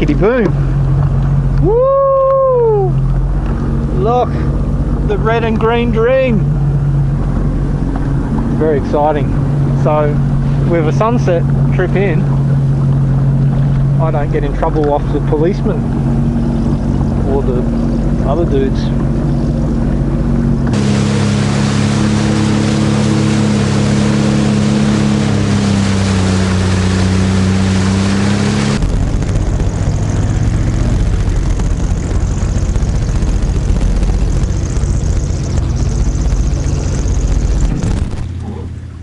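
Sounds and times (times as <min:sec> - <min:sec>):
wind noise: 0:00.0 - 0:38.4
jet ski engine running: 0:00.0 - 0:39.0
rushing water: 0:00.0 - 0:39.0.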